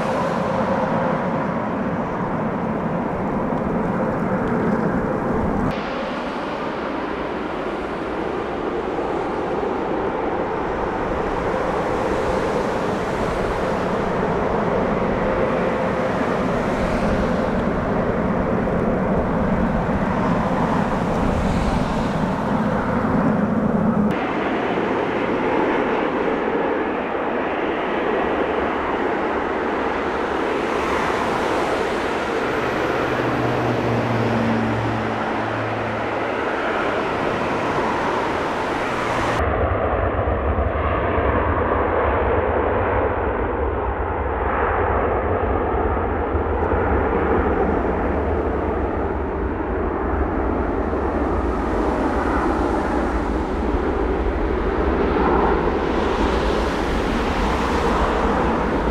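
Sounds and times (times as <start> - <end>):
jet engines rumbling: 0.0 - 58.9.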